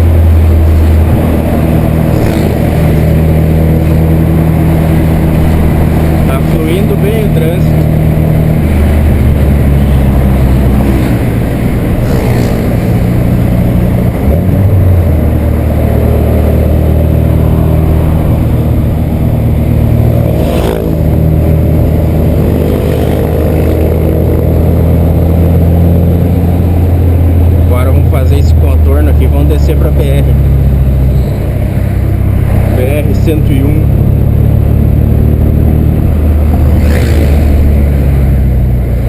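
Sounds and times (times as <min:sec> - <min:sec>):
car engine growling: 0:00.0 - 0:39.0.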